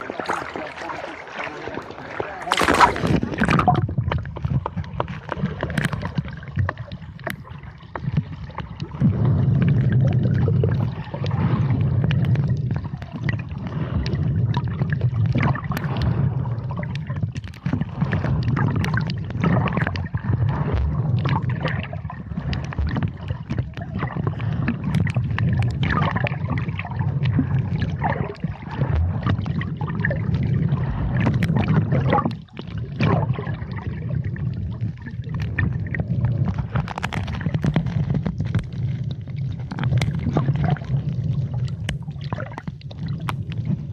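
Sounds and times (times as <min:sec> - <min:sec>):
low underwater rumble: 0:00.0 - 0:43.9
underwater clicks and crackles: 0:00.0 - 0:43.9.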